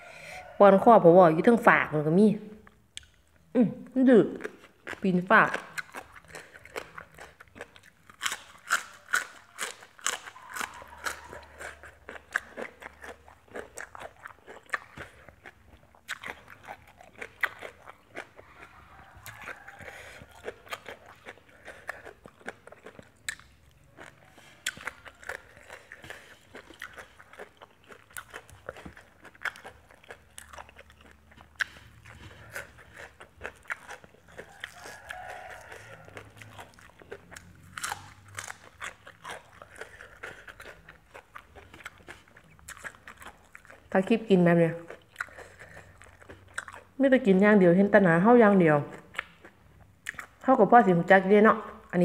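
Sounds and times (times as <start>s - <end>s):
person chewing crunchy food: 4.2s - 47.0s, 48.8s - 50.4s.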